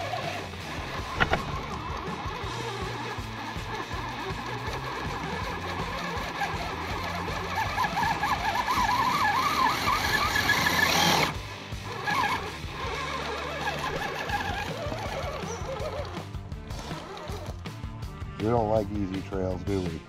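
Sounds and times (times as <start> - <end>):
electric motor and gears whining: 0.0 - 20.0.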